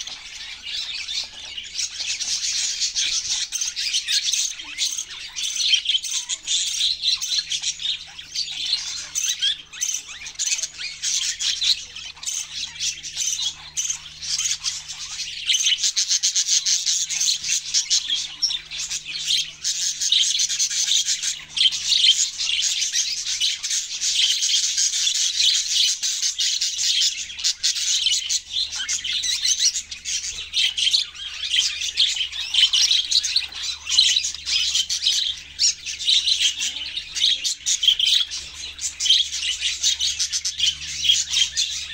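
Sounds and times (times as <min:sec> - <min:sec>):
budgerigars chirping: 0:00.0 - 0:41.9.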